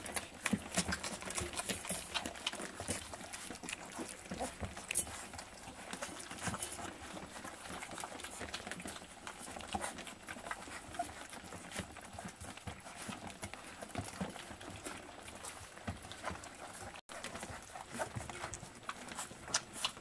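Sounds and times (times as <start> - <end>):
puppies lapping and chewing: 0.0 - 20.0.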